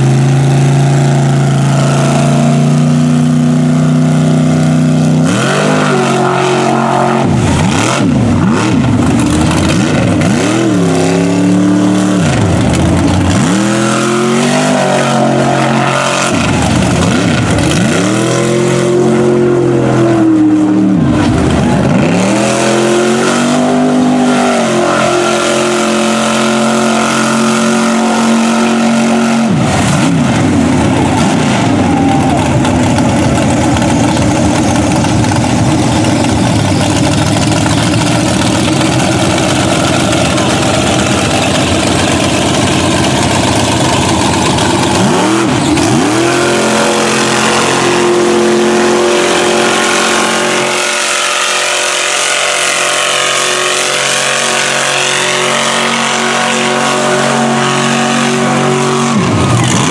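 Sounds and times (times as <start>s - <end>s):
truck engine at high revs: 0.0s - 59.9s.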